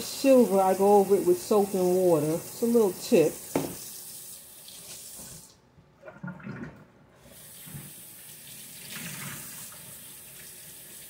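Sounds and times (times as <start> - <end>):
tap running water: 0.0 - 11.0.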